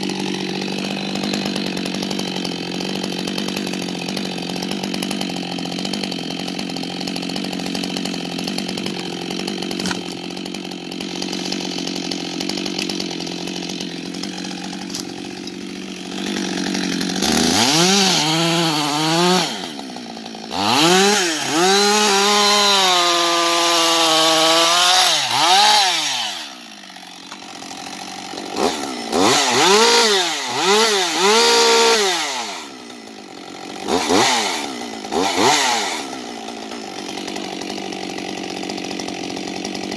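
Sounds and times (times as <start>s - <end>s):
chainsaw cutting log: 0.0s - 39.9s
chainsaw idling: 0.0s - 39.9s.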